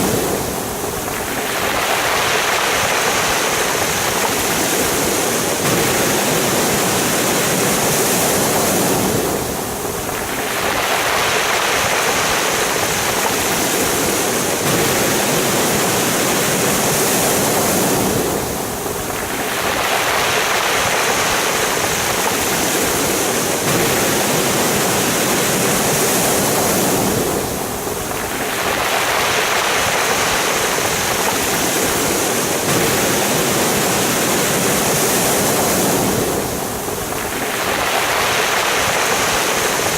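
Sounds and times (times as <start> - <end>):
waves breaking on pebble beach: 0.0 - 39.9.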